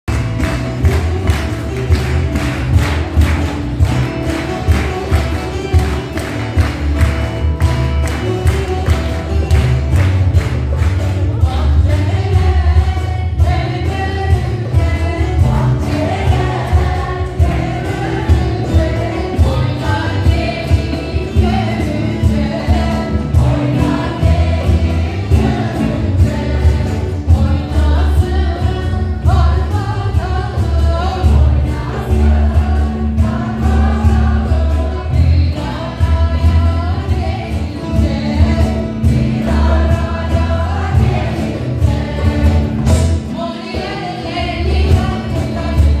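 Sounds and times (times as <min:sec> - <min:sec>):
choir singing folk song: 0:00.1 - 0:46.0
strummed acoustic guitars: 0:00.1 - 0:46.0.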